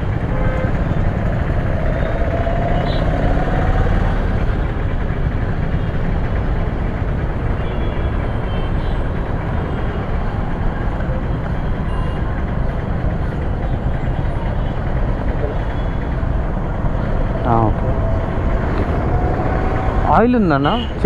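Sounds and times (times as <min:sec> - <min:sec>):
road vehicles rumbling: 0:00.0 - 0:21.0.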